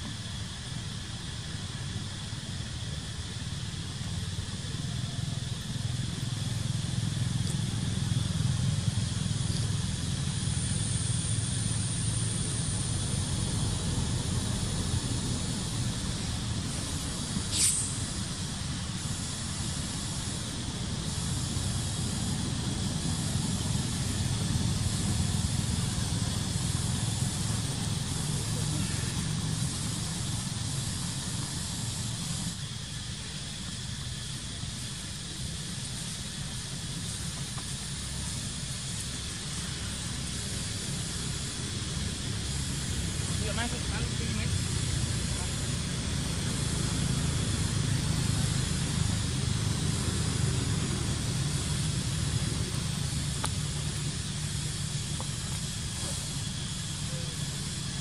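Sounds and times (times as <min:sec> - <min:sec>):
even hiss: 0:00.0 - 0:58.0.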